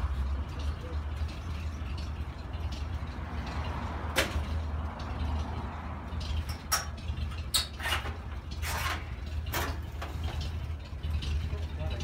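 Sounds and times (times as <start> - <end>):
engine idling: 0.0 - 12.0
metal clanks and rattle: 0.0 - 12.0.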